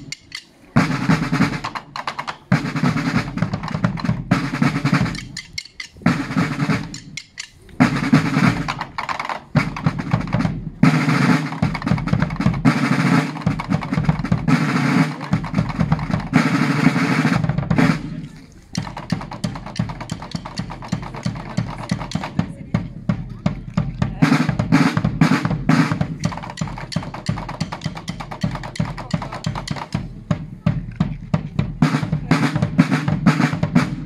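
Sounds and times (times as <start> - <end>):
snare and bass drums playing: 0.0 - 34.0.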